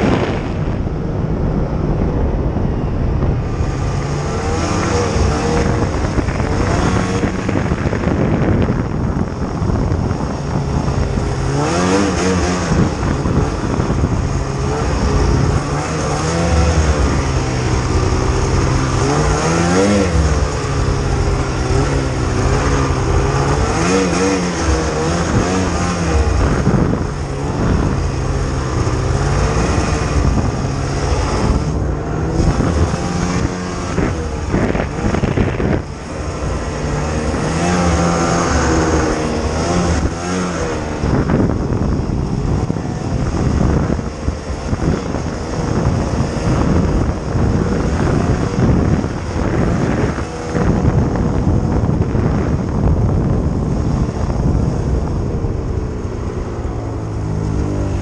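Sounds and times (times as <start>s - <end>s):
snowmobile engine revving: 0.0s - 58.0s
steady rush of noise: 0.0s - 58.0s.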